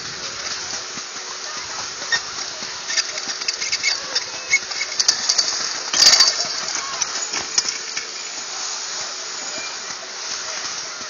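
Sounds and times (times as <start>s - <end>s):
skis scraping over packed snow: 0.0s - 11.0s.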